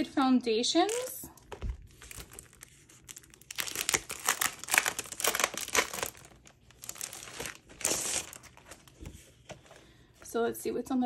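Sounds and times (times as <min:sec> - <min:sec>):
plastic sleeve crinkling: 0:00.7 - 0:09.8.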